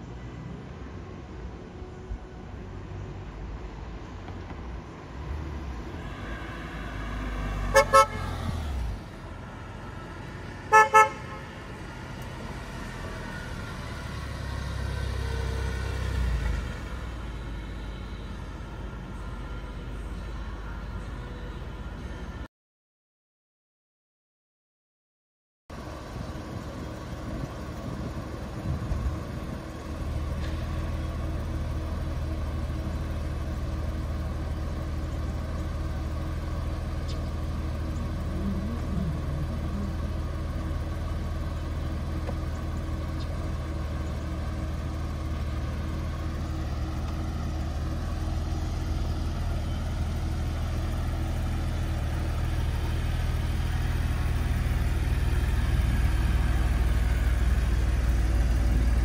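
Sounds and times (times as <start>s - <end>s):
car engine starting and idling: 0.0s - 22.5s, 25.7s - 59.0s.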